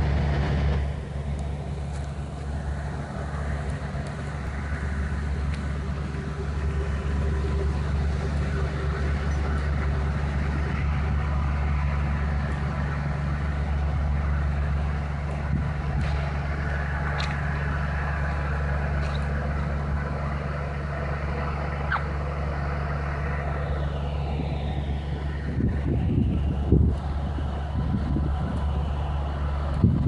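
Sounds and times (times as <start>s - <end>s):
low engine drone: 0.0s - 30.0s.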